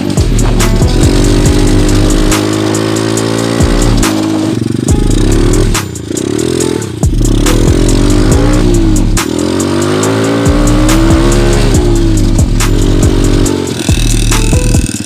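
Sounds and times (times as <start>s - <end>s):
dirt bike engine revving: 0.0s - 15.0s
electronic music with drum beat: 0.0s - 15.0s.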